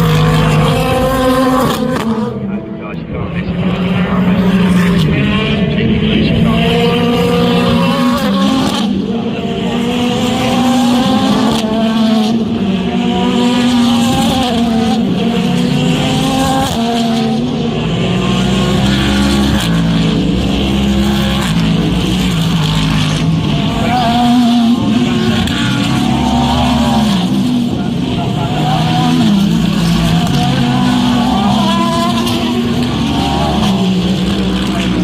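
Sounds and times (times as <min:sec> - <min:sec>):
race car engines accelerating: 0:00.0 - 0:35.0.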